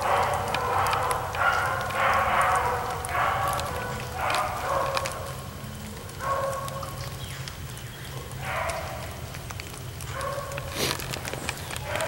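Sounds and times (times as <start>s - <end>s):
dogs baying: 0.0s - 7.2s, 8.0s - 9.4s, 10.0s - 12.0s.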